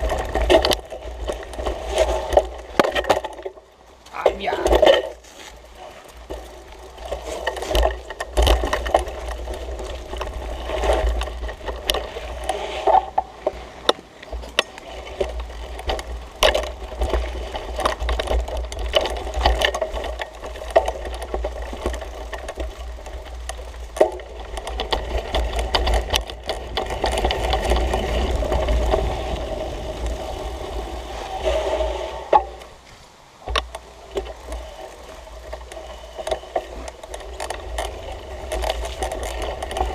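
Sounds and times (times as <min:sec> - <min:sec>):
mountain bike rattling over bumps: 0:00.0 - 0:39.9
tyre noise on dirt trail: 0:00.0 - 0:39.9.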